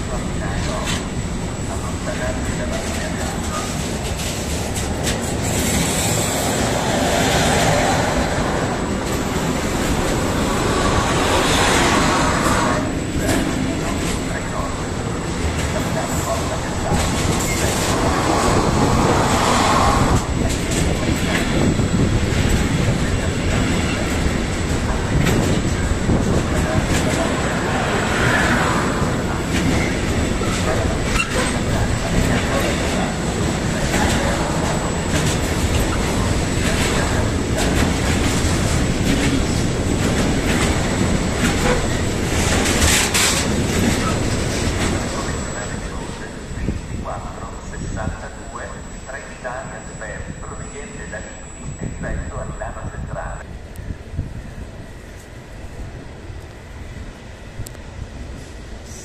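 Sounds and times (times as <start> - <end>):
train clattering over rail joints: 0.0 - 47.4
freight train wheels rumbling: 0.0 - 59.0.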